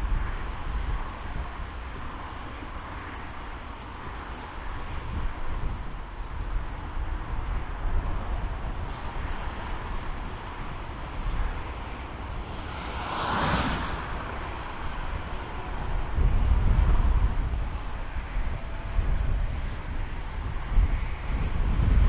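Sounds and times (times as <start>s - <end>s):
distant jet engines: 0.0s - 22.0s
wind rumble on microphone: 0.0s - 22.0s.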